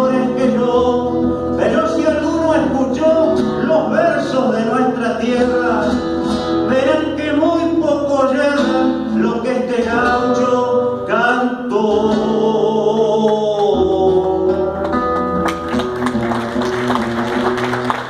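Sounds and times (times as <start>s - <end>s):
man singing: 0.0s - 15.1s
acoustic guitar strumming: 0.0s - 18.0s.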